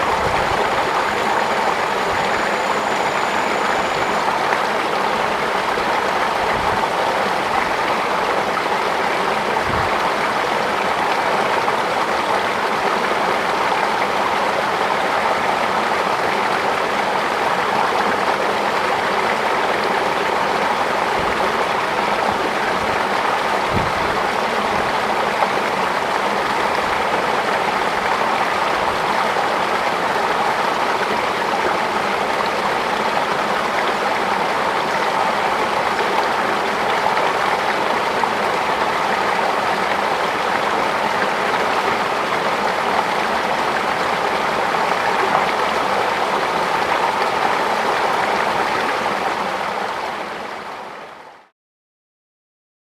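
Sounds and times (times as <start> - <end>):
water rushing: 0.0 - 51.5.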